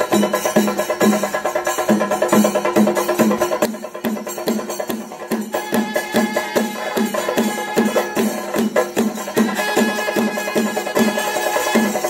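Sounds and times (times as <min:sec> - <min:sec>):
drums in quick rhythm: 0:00.0 - 0:12.0.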